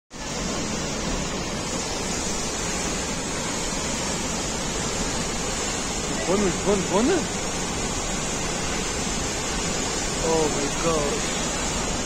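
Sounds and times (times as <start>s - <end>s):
waterfall rushing into gorge: 0.1s - 12.0s.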